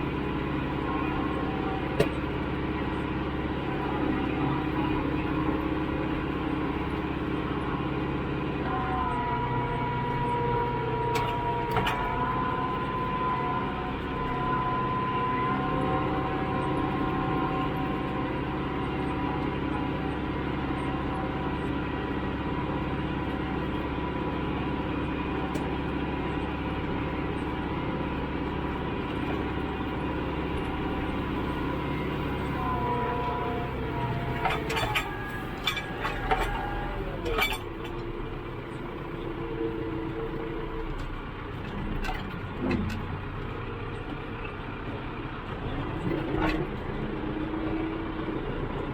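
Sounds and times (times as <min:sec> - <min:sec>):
steady whine: 0:00.0 - 0:43.0
tractor engine running: 0:00.0 - 0:48.9.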